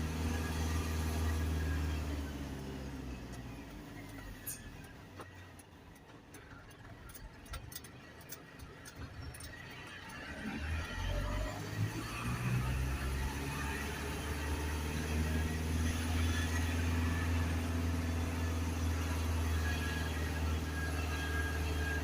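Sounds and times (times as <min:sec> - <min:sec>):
garbage truck engine humming: 0:00.0 - 0:22.0.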